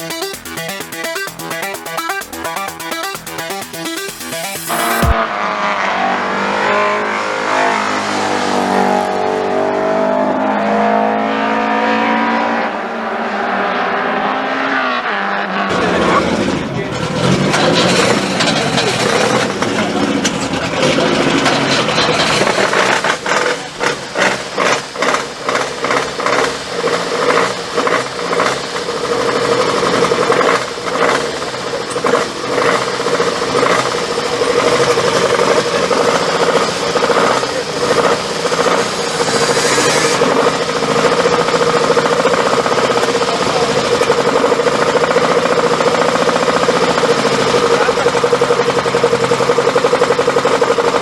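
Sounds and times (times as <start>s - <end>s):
race car engine revving and idling: 0.0s - 51.0s.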